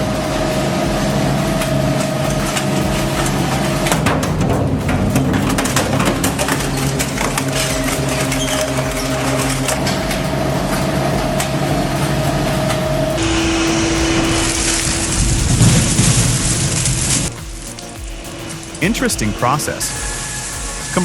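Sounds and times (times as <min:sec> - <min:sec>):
hiss: 0:00.0 - 0:21.0
machine humming: 0:00.0 - 0:21.0
shredding machine crunching: 0:00.0 - 0:21.0.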